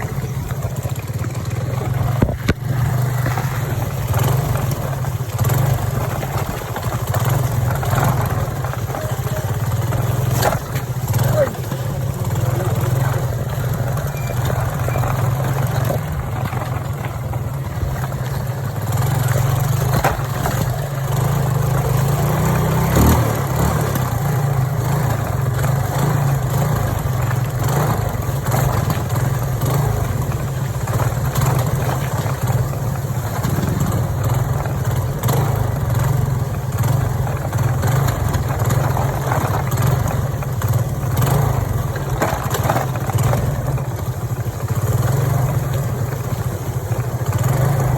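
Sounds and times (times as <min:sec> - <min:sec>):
constant noisy hiss: 0:00.0 - 0:47.9
motorcycle engine running: 0:00.0 - 0:47.9.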